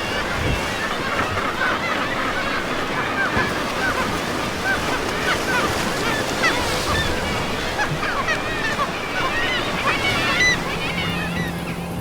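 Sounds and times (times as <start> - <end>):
rushing water: 0.0 - 12.0
wind: 0.0 - 12.0.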